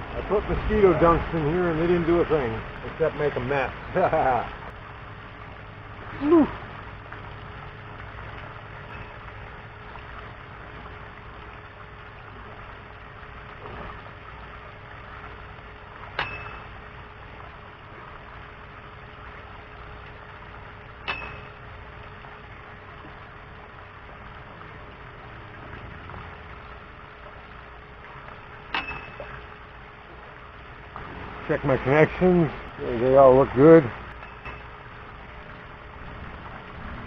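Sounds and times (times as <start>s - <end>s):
water running into pool: 0.0s - 37.0s.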